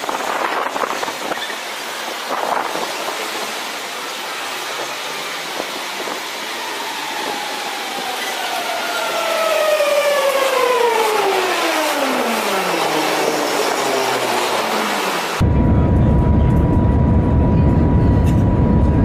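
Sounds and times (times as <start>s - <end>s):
train rushing past: 0.0s - 19.0s
falling whine: 2.2s - 19.0s.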